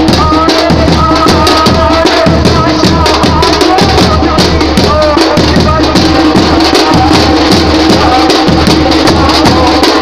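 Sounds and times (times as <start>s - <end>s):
frame drums beating: 0.0s - 10.0s.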